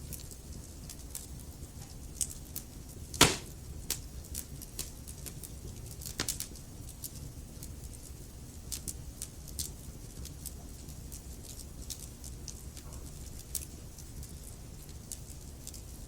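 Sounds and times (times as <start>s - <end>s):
log fire crackling: 0.1s - 16.0s.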